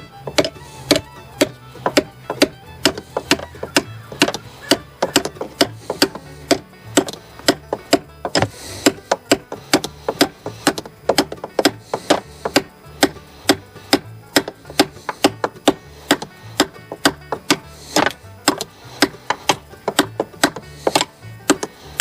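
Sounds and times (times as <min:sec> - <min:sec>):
music with bass and sharp beat: 0:00.0 - 0:22.0.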